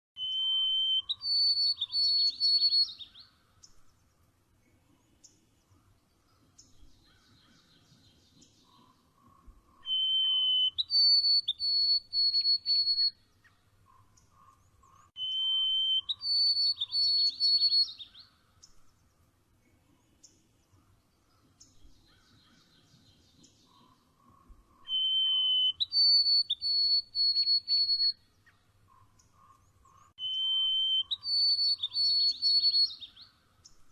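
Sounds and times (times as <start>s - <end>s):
faint bird chirps: 0.2s - 19.2s, 19.9s - 33.9s
songbird singing: 0.2s - 33.9s.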